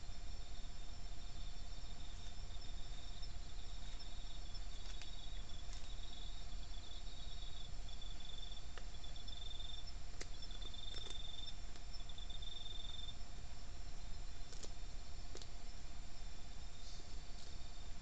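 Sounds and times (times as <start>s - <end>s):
insects trilling: 0.0s - 18.0s
thin constant tone: 0.0s - 18.0s.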